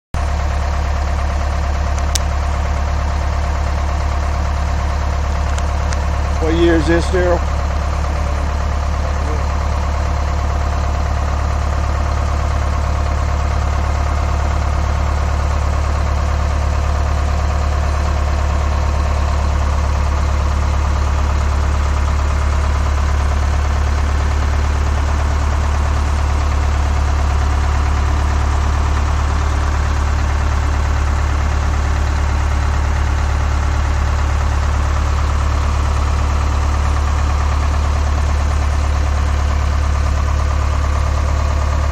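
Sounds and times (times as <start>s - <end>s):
truck engine idling: 0.2s - 41.9s.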